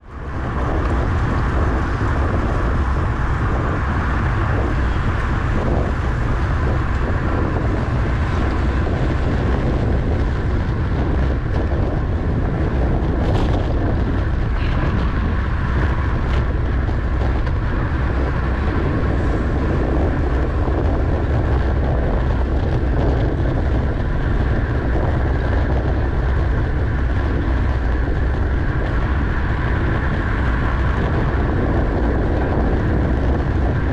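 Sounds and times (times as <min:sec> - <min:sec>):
road and tyre noise: 0:00.0 - 0:33.9
wind buffeting microphone: 0:00.0 - 0:33.9.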